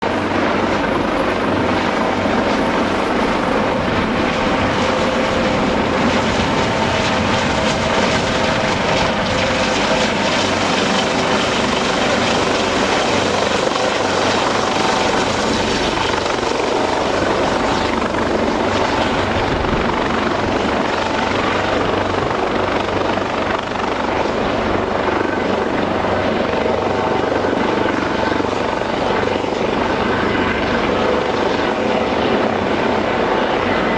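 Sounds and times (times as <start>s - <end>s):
helicopter turbines and rotor noise: 0.0s - 33.9s.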